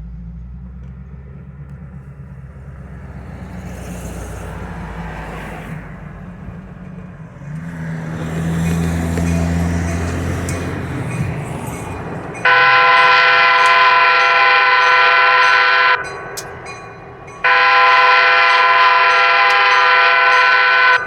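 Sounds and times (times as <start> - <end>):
road traffic: 0.0 - 21.0
train approaching drone: 0.0 - 21.0
vehicle passing: 0.6 - 21.0.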